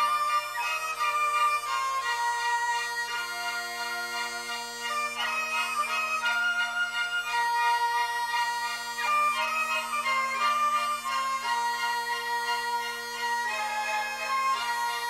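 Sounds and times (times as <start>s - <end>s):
bagpipes playing a melody: 0.0s - 15.0s.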